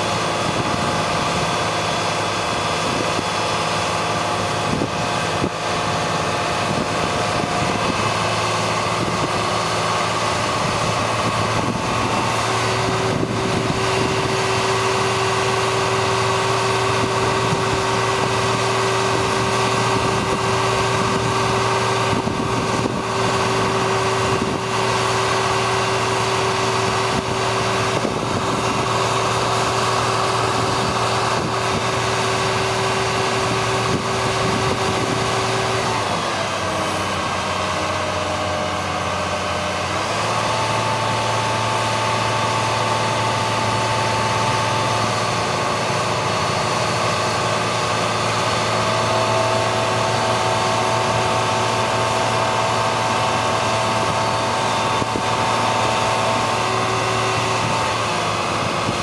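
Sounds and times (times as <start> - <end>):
hydraulic whine: 0.0 - 59.0
truck engine running: 0.0 - 59.0.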